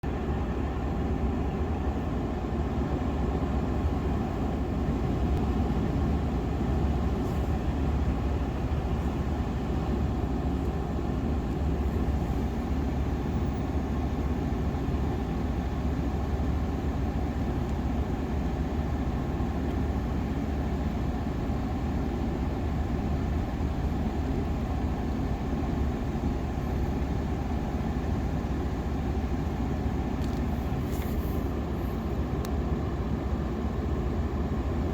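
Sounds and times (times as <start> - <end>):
car interior road and engine noise: 0.0 - 34.9.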